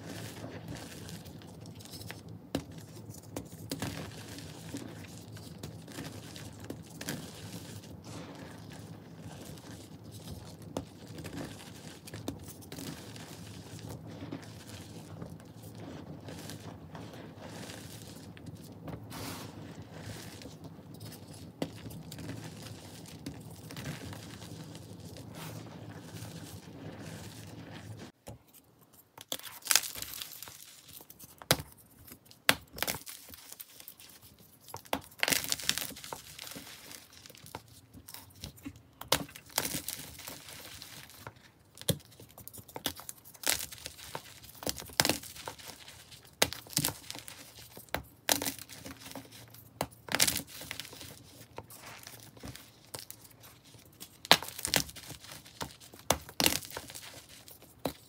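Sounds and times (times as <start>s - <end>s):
hands squeezing gritty powder: 0.0s - 28.2s, 32.0s - 58.0s
powder crumbling and rustling: 0.0s - 28.2s, 29.2s - 58.0s
chalk crunching: 0.0s - 31.4s, 39.2s - 58.0s.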